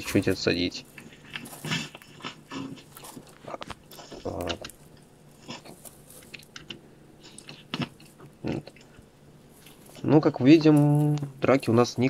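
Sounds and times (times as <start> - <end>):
chinchillas crunching dry food: 0.0 - 12.0.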